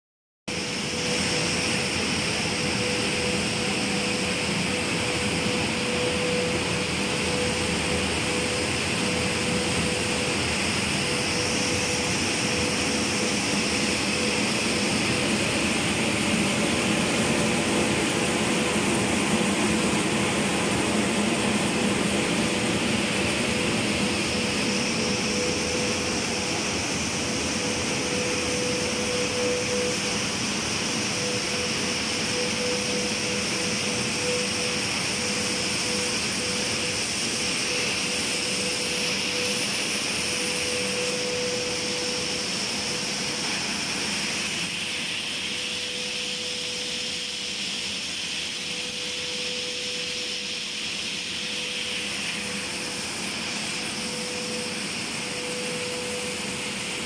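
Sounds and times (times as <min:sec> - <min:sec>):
constant hiss: 0:00.5 - 0:57.0
machinery humming: 0:00.5 - 0:57.0.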